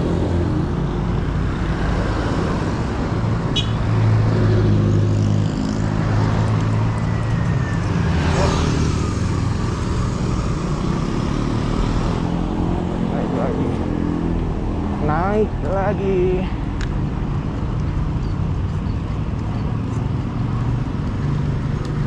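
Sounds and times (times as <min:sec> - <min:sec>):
road traffic engines: 0:00.0 - 0:22.0.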